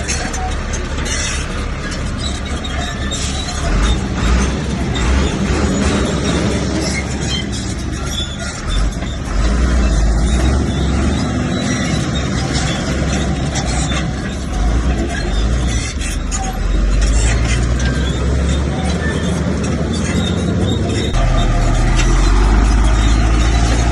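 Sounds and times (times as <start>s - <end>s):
bulldozer diesel engine running: 0.0s - 23.9s
metal clanking and rattling: 0.0s - 23.9s.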